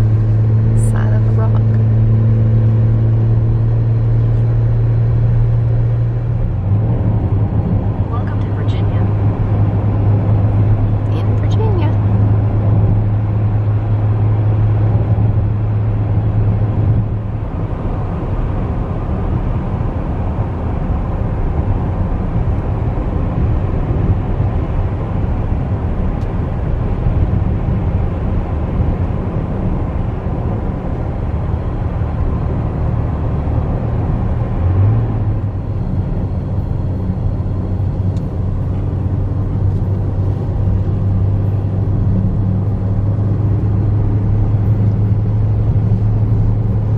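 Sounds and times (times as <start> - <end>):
car engine drone: 0.0 - 46.9.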